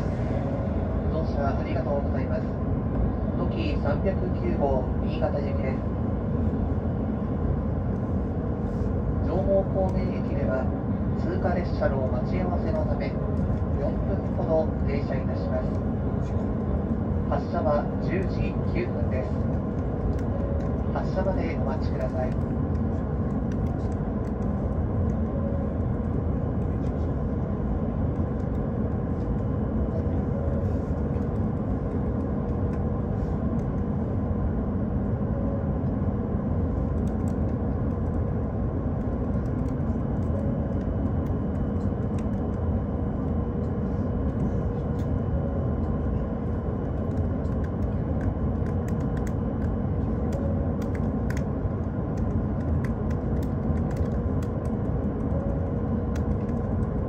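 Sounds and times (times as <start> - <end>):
faint steady whine: 0.0 - 57.0
train rumbling and humming: 0.0 - 57.0.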